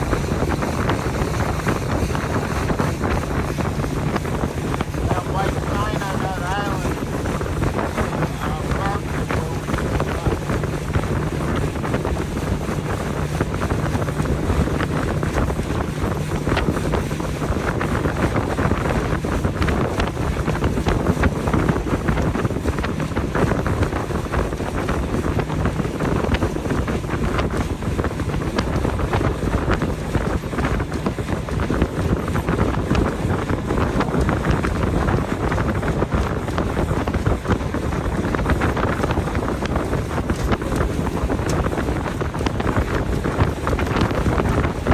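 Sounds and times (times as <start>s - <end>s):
motorboat engine and water rush: 0.0s - 44.9s
wind buffeting microphone: 0.0s - 44.9s.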